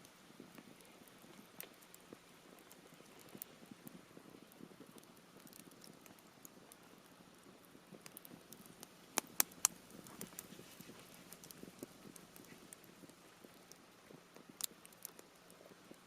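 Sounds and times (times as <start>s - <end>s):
campfire crackling: 0.0s - 16.0s
faint hiss: 0.0s - 16.0s.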